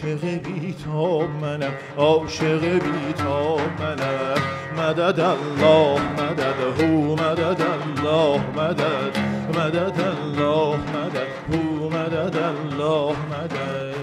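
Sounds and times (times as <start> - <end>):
ornamented singing voice: 0.0 - 14.0
oud plucked: 0.0 - 14.0.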